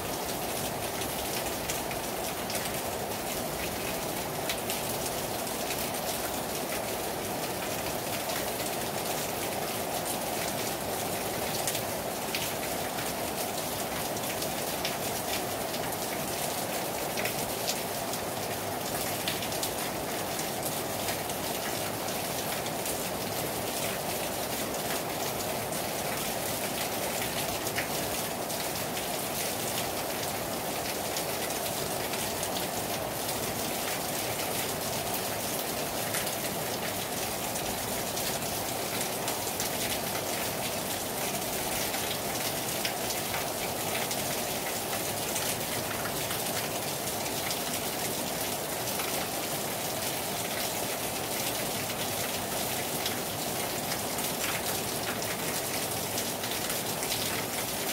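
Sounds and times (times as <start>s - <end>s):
heavy rain on hard surfaces: 0.0s - 57.9s.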